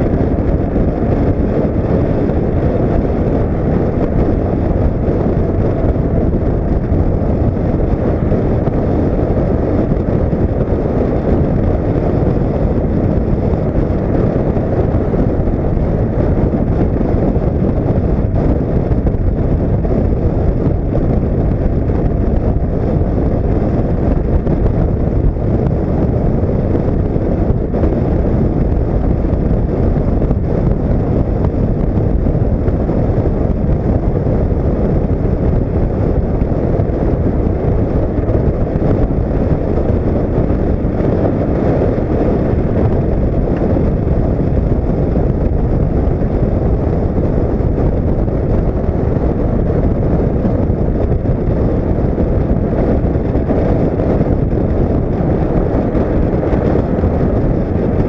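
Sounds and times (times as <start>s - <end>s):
motorcycle engine and road noise: 0.0s - 58.0s
wind rumble on microphone: 0.0s - 58.0s.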